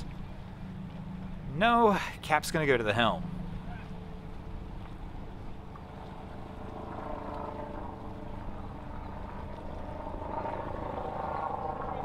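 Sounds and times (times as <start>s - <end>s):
boat engines humming: 0.0s - 12.0s
high wavering drone: 0.0s - 12.0s.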